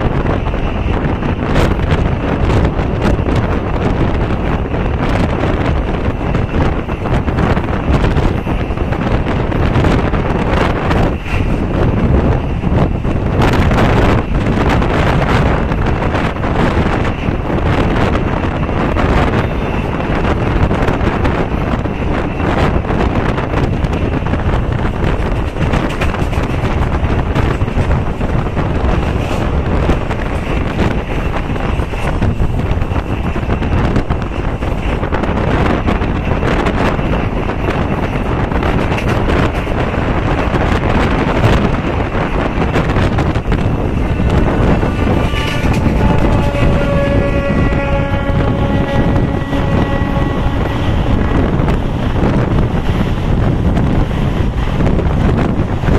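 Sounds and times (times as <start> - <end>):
train wheels on rails: 0.0 - 55.9
wind on microphone: 0.0 - 55.9.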